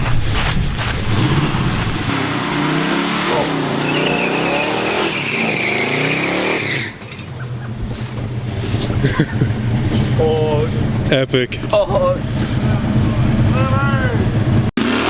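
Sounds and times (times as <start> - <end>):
car engine revving: 0.0 - 15.0
tyres squealing: 2.1 - 15.0.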